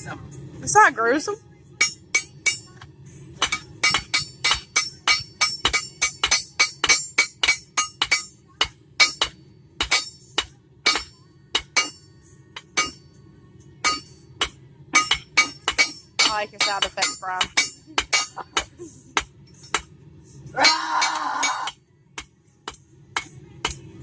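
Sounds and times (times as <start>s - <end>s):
hammer striking metal on anvil: 1.8s - 13.2s, 13.8s - 20.0s, 20.6s - 24.0s.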